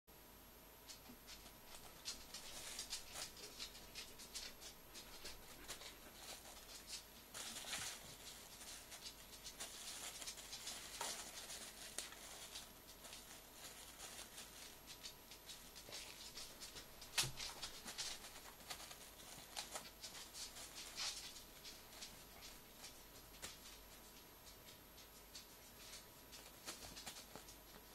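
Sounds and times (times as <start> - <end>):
paws pattering on a rug: 0.9 - 27.9
plastic film crinkling: 1.3 - 24.2, 25.1 - 27.9.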